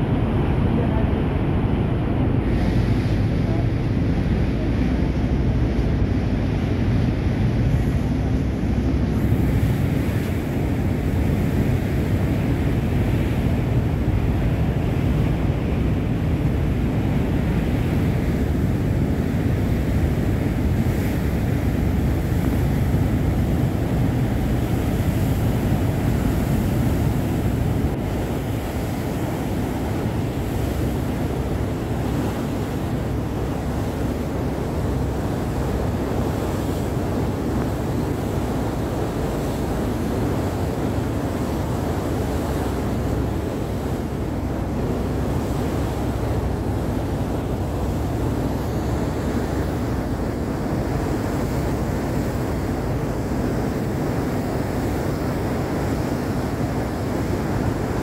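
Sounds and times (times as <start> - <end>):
sea water rushing along hull: 0.0 - 58.0
wind buffeting microphone: 0.0 - 58.0.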